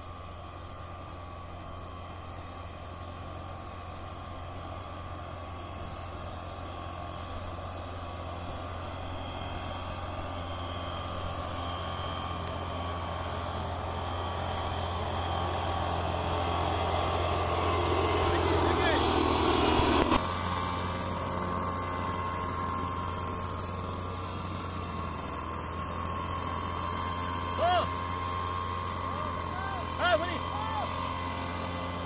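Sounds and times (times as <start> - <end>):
backpack duster engines running: 0.0 - 32.0.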